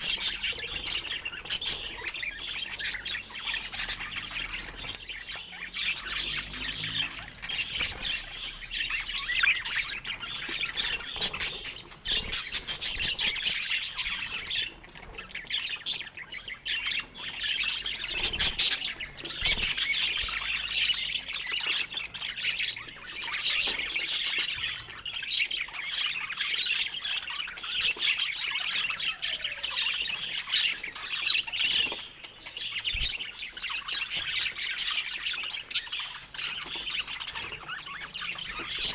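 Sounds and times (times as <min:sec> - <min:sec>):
budgerigars chattering and warbling: 0:00.0 - 0:38.9.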